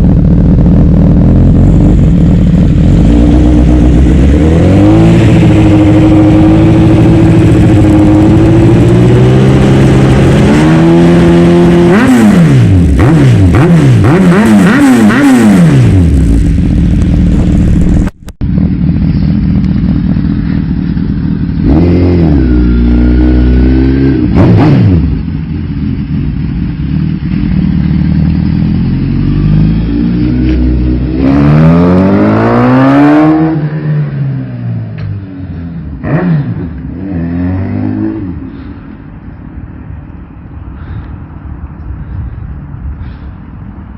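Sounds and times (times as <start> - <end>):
motorcycle engine revving: 0.0 - 39.3.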